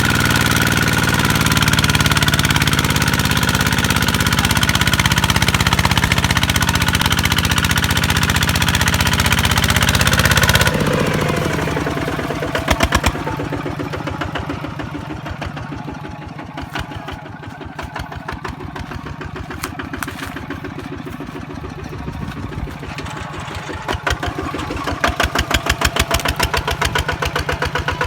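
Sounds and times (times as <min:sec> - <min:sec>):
diesel engine chugging: 0:00.0 - 0:28.0.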